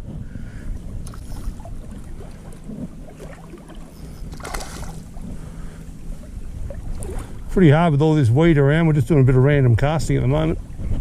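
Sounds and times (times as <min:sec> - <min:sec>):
shallow water lapping: 0:00.0 - 0:11.0
wind buffeting microphone: 0:00.0 - 0:11.0.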